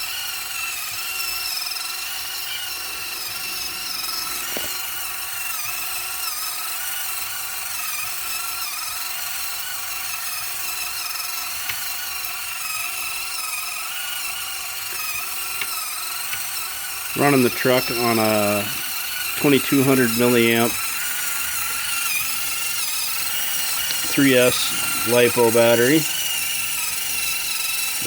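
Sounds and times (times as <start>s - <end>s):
servo gear whine: 0.0s - 10.3s, 13.9s - 28.0s.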